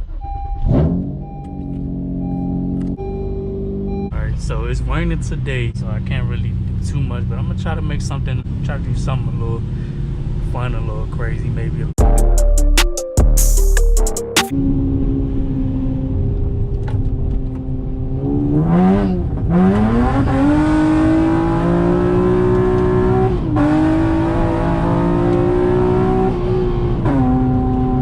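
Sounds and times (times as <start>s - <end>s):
car engine accelerating: 0.0s - 12.0s, 14.5s - 28.0s.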